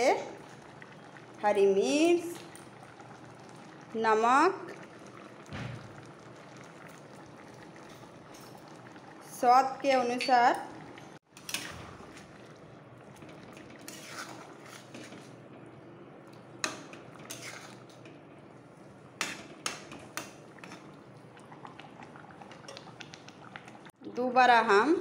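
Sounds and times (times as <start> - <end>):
curry bubbling: 0.0 - 24.0.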